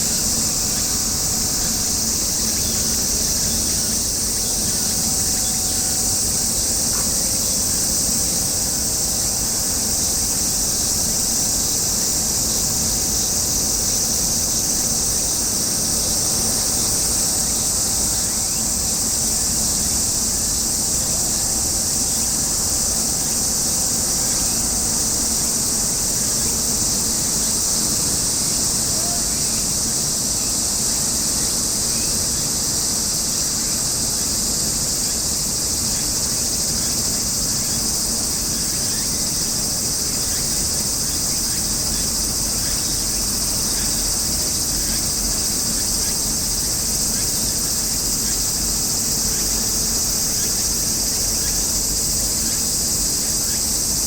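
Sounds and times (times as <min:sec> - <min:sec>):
cicadas singing: 0:00.0 - 0:54.0.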